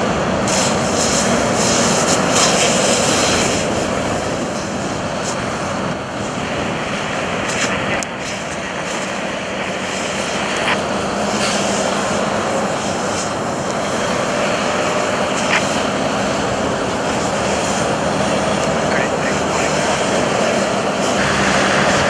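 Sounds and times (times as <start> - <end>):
engine droning: 0.0 - 22.0
fire hose nozzle hissing: 0.4 - 22.0.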